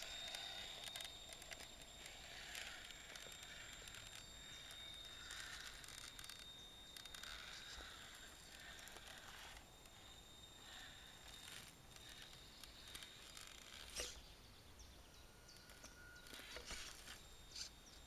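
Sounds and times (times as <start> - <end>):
electric motor and gearbox whir: 0.0 - 18.0
steady high whine: 0.0 - 18.0.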